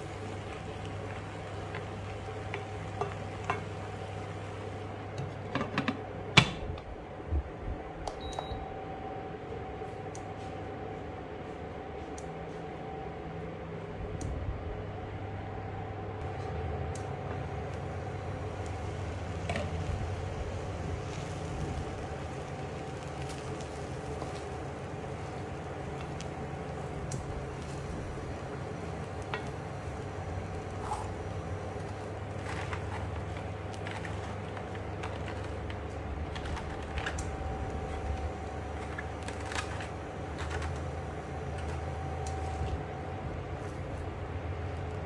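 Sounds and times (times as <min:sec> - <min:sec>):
induction cooktop fan humming: 0:00.0 - 0:45.0.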